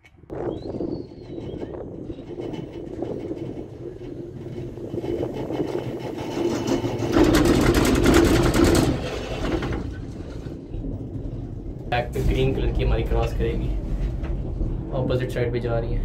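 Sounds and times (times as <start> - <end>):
cable car hum and rattle: 0.0 - 16.0
rushing noise with deep rumble: 0.3 - 16.0.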